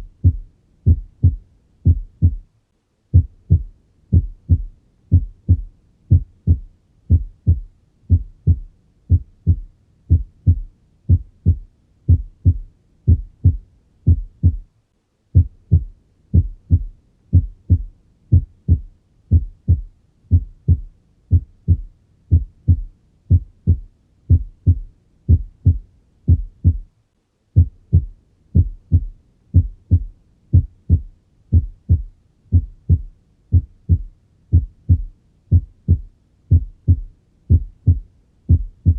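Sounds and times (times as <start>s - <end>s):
heartbeat lub-dub: 0.0s - 2.5s, 3.1s - 14.7s, 15.3s - 26.9s, 27.6s - 38.9s.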